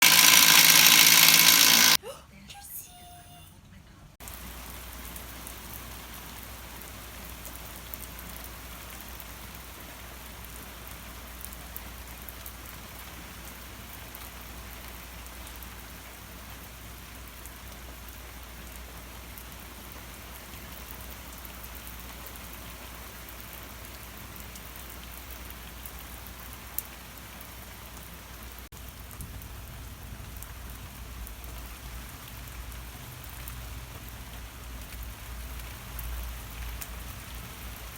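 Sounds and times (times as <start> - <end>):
heavy rain falling: 4.2 - 37.9.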